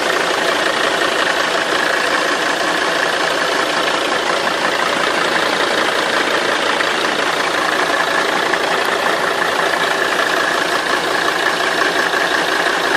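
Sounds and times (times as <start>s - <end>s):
continuous rattle: 0.0s - 12.9s
diesel engine idling: 0.0s - 12.9s.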